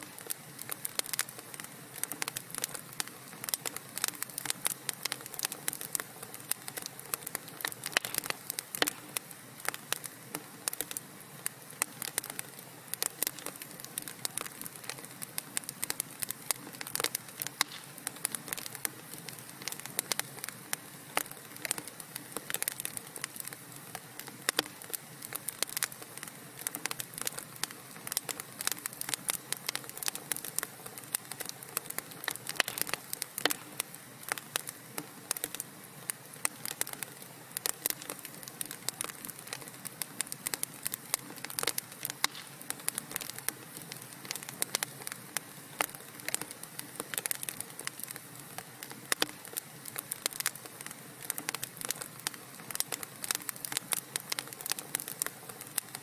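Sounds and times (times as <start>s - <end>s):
hiss of burning logs: 0.0s - 56.0s
wood fire crackling and popping: 0.0s - 56.0s.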